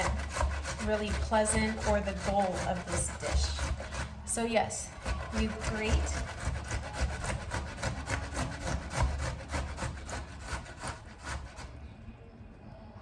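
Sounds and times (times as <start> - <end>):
tomato rasping on grater: 0.0 - 11.7.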